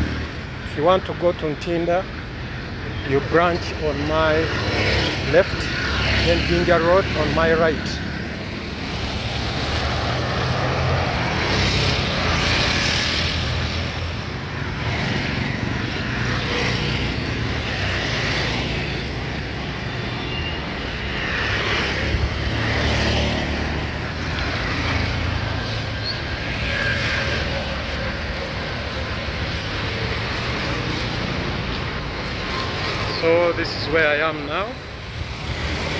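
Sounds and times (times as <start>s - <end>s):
vehicles passing: 0.0s - 35.9s.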